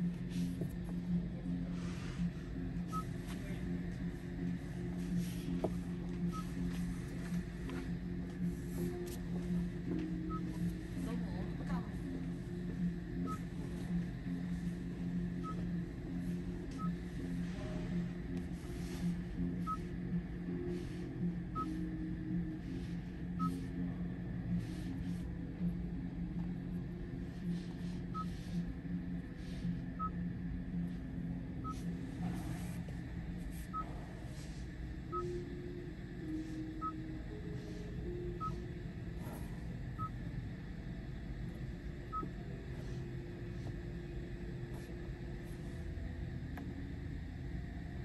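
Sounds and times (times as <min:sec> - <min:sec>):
low cabin hum: 0:00.0 - 0:48.0.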